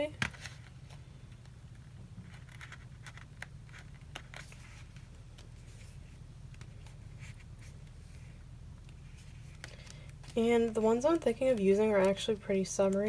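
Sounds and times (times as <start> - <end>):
low steady hum: 0.0 - 13.0
book pages rustling: 0.2 - 13.0.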